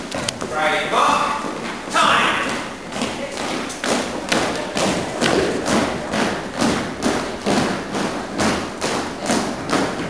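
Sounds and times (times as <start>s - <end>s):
boys marching on wooden floor: 0.0s - 10.0s.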